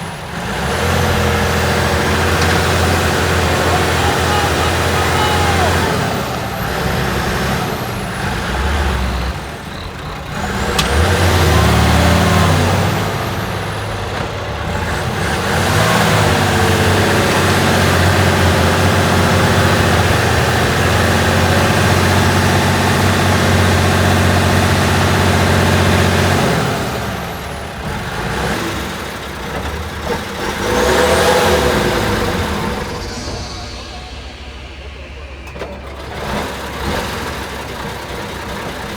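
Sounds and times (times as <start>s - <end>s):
truck diesel engine revving: 0.0s - 38.9s.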